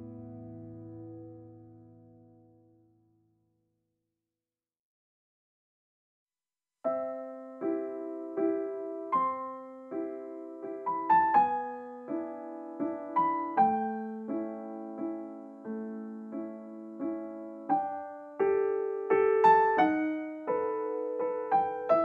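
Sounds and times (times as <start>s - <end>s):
piano music: 0.0s - 2.8s, 6.9s - 22.0s.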